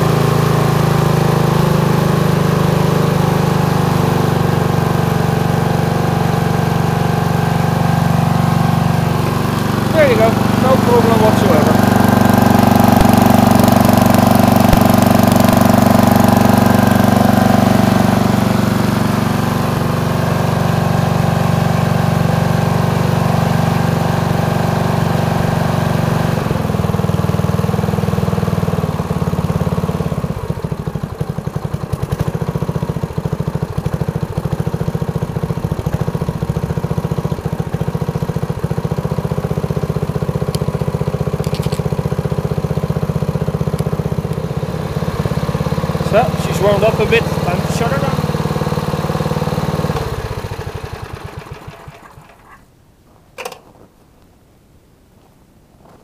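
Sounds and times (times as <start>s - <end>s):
snowblower engine running: 0.0s - 52.7s.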